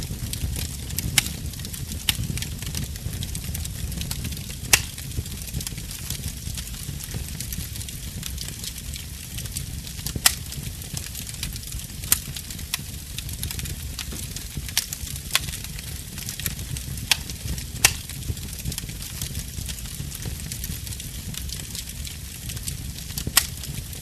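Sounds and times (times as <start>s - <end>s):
fire crackling: 0.0s - 24.0s
sharp pops of fire: 0.1s - 24.0s.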